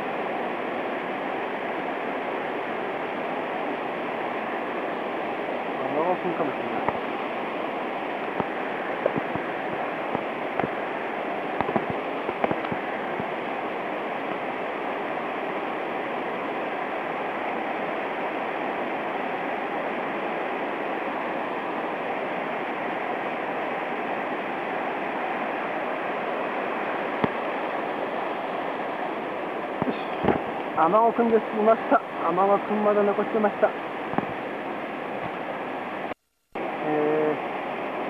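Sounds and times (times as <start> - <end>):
fast-flowing stream rushing: 0.0 - 38.0.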